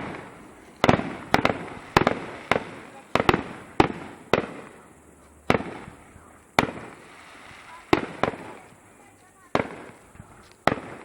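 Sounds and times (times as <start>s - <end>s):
fireworks bursting bangs: 0.0s - 11.0s.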